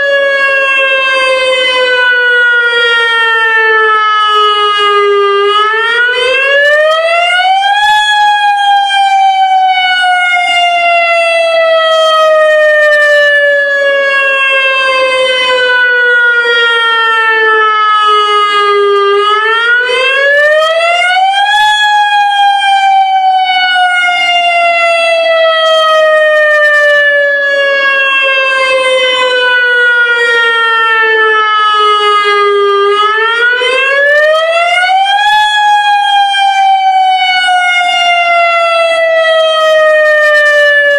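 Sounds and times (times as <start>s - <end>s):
electronic siren rising and falling: 0.0s - 40.9s.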